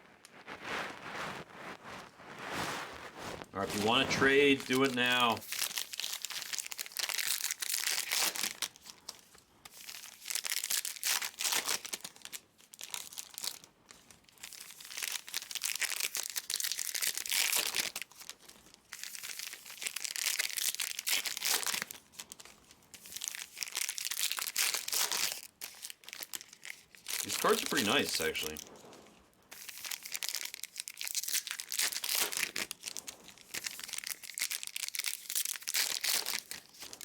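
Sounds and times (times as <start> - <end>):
plastic and foil packaging crinkling: 0.0 - 37.0.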